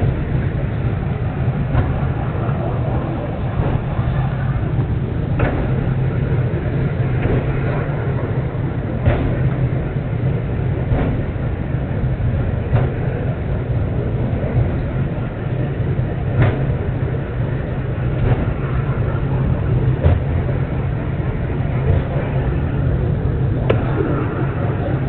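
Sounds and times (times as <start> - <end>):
cable car rumbling on rails: 0.0 - 25.0
light clicks of cable car: 0.0 - 25.0.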